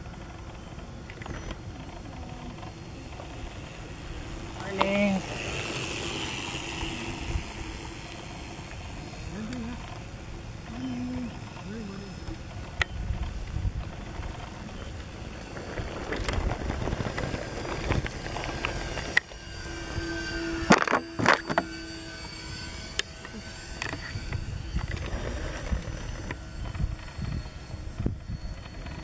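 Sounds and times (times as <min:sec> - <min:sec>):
wind rumble on microphone: 0:00.0 - 0:21.6, 0:22.8 - 0:29.0
distant model plane motors drone: 0:00.0 - 0:29.0.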